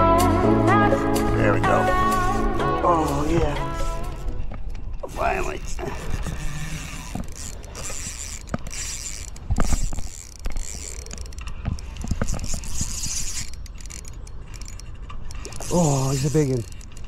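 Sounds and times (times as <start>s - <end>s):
fishing reel whirring and clicking: 0.7s - 4.3s, 5.0s - 17.0s.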